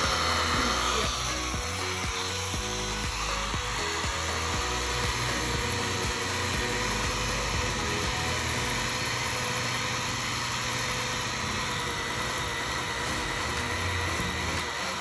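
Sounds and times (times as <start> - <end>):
electric polisher motor whine: 0.0 - 15.0.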